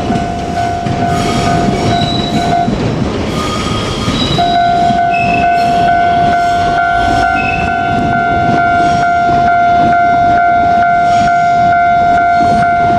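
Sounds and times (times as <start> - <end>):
level crossing warning bell: 0.0 - 2.8, 4.3 - 12.9
steady tone: 0.0 - 12.8
electric train rumbling: 0.0 - 12.9.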